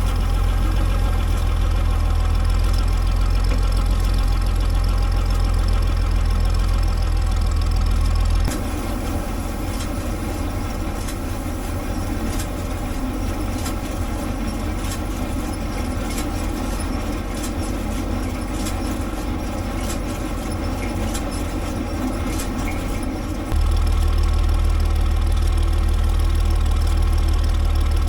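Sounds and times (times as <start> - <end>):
baler machinery clattering: 0.0 - 28.0
tractor engine drone: 0.0 - 28.0.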